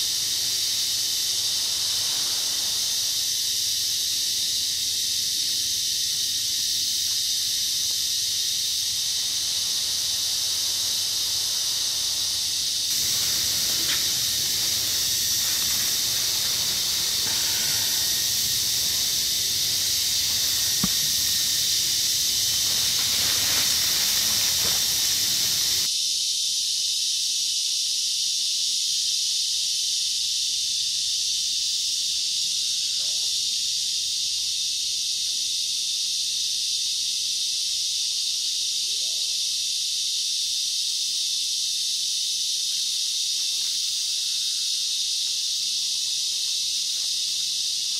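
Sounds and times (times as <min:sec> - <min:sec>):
insect chorus hiss: 0:00.0 - 0:47.9.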